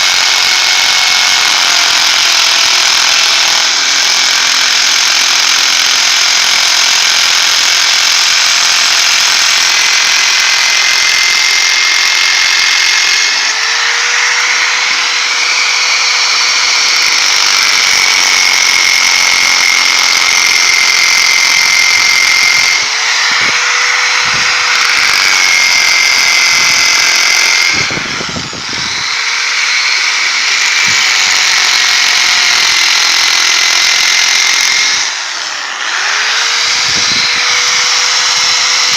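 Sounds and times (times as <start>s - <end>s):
electric drill whining: 0.0s - 38.9s.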